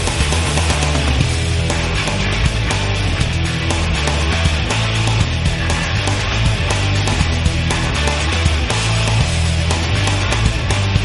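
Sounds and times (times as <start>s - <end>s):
loud rock music with heavy bass: 0.0s - 11.0s.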